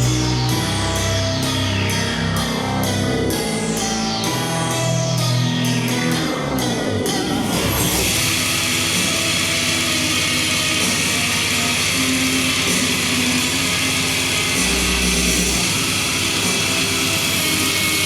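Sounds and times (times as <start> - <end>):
loud rock music: 0.0 - 18.0.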